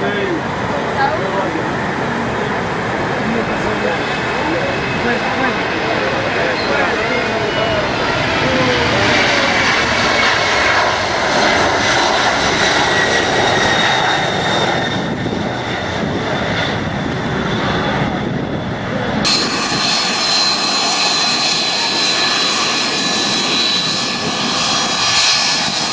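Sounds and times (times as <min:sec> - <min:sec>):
airliner engines roaring: 0:00.0 - 0:25.9
high engine whine: 0:00.0 - 0:25.9.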